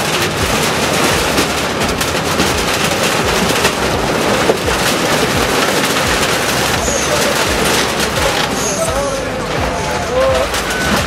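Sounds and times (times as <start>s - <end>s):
metal sheets crashing and clattering: 0.0s - 11.0s
sharp bangs: 0.0s - 11.0s
wood splintering: 0.0s - 11.0s.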